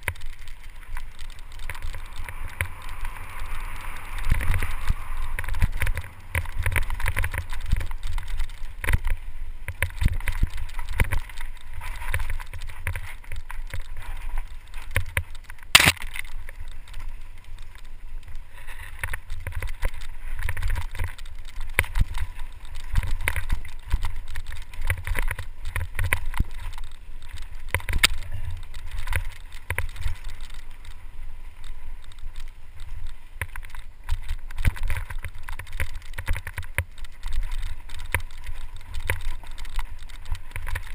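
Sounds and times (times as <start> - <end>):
bike rattling over rocks: 0.0 - 40.9
wind rumble on microphone: 0.0 - 40.9.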